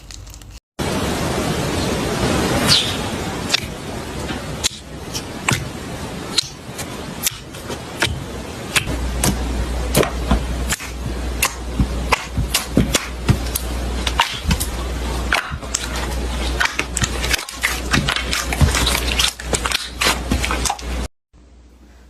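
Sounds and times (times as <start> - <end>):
low hum: 0.8 - 22.0.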